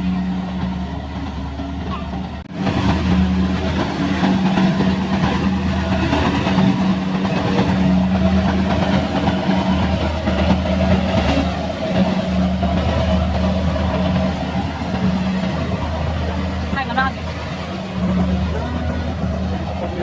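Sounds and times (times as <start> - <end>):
harvester engine humming: 0.0 - 20.0.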